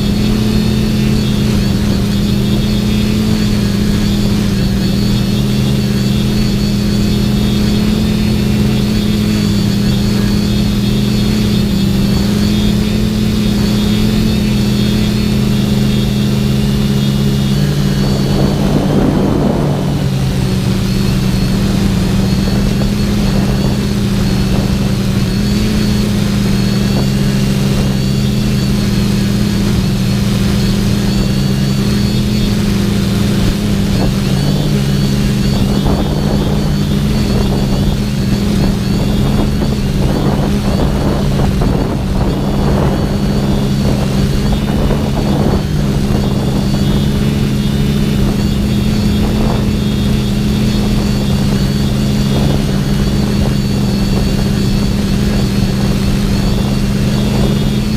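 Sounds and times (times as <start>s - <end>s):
quadcopter propellers humming: 0.0s - 57.9s.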